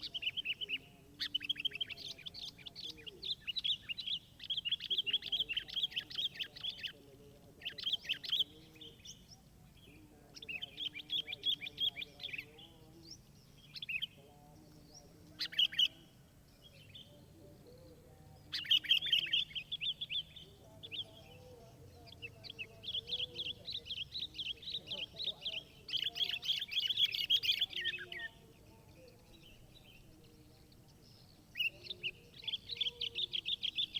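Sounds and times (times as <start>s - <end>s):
songbird chattering: 0.0s - 33.9s.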